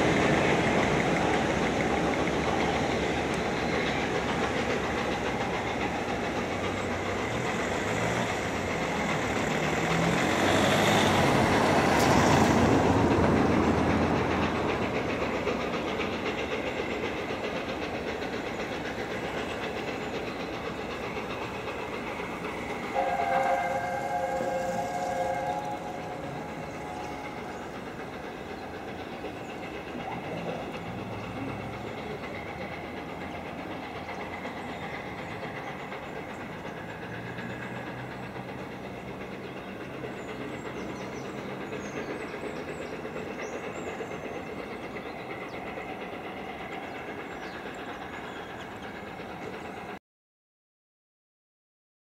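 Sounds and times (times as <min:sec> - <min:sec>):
locomotive engine rumble: 0:00.0 - 0:50.0
train wheels clicking on rail joints: 0:00.0 - 0:50.0.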